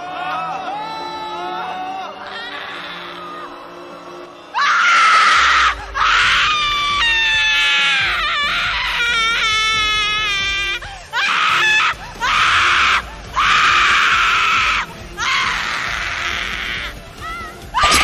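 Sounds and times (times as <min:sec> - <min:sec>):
high-pitched human screaming: 0:00.8 - 0:03.6, 0:04.6 - 0:18.0.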